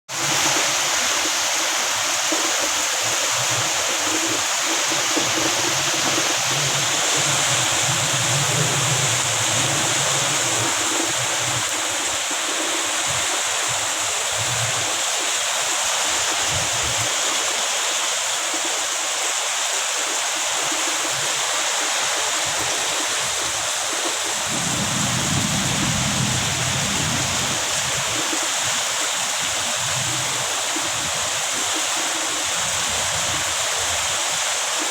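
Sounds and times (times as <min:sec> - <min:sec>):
heavy rain pouring: 0:00.1 - 0:34.9
strong wind rumbling: 0:00.2 - 0:17.2, 0:22.1 - 0:34.2.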